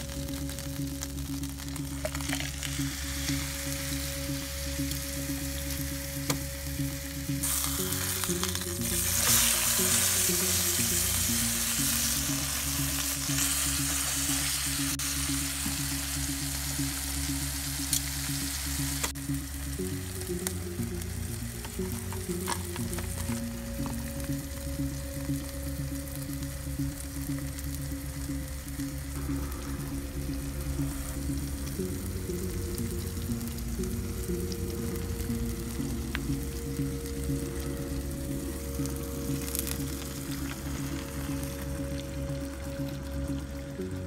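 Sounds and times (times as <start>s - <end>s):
background music: 0.0s - 44.0s
meat sizzling in a frying pan: 0.1s - 43.6s.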